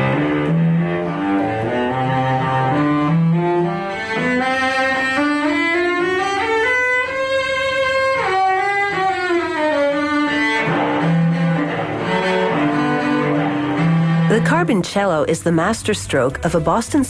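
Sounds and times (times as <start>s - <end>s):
bowed cello: 0.0s - 17.0s.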